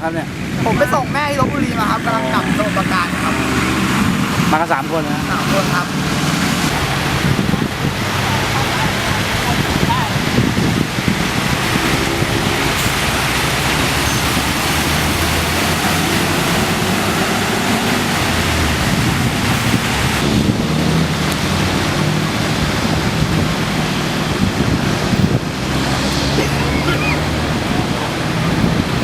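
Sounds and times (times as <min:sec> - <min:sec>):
strong wind on microphone: 0:00.0 - 0:29.0
vehicle engines humming: 0:00.0 - 0:29.0.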